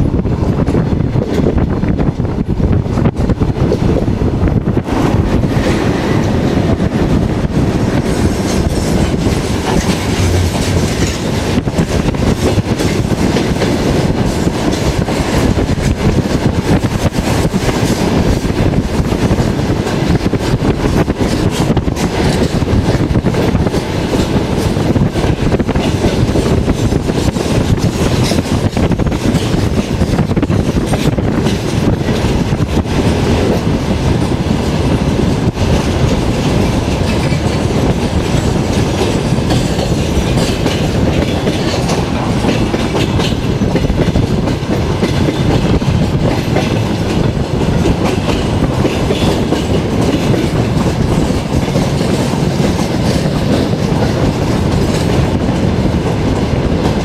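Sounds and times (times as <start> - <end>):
train rumble: 0.0 - 57.0
wheels clattering on rails: 0.0 - 57.0.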